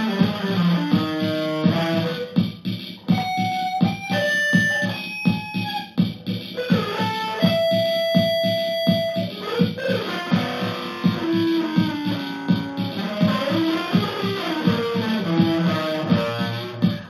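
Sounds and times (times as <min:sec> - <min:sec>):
electric guitar playing: 0:00.0 - 0:17.0
percussive beat: 0:00.0 - 0:17.0.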